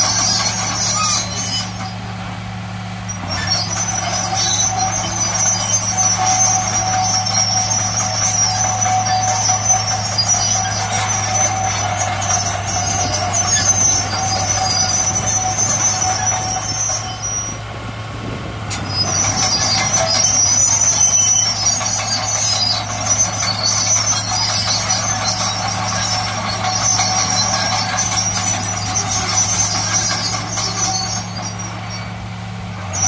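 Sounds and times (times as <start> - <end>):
high-pitched squeal: 0.0 - 2.2, 3.0 - 18.0, 18.6 - 33.0
diesel engine drone: 0.0 - 33.0.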